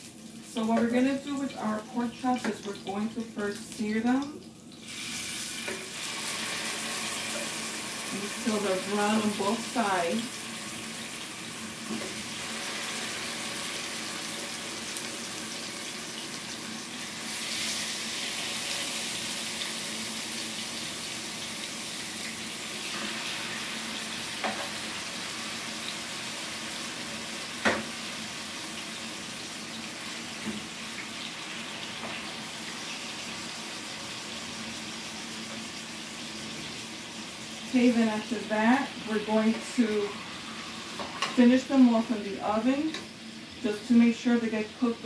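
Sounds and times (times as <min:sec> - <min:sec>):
meat sizzling in a frying pan: 0:00.0 - 0:45.0.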